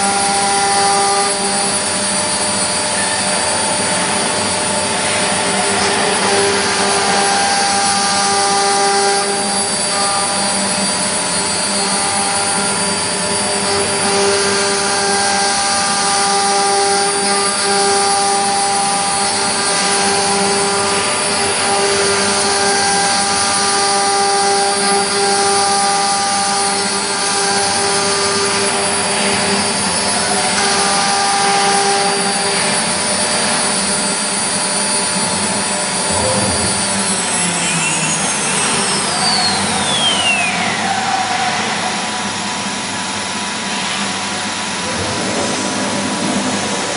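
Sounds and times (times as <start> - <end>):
milling machine hiss and whine: 0.0 - 46.9.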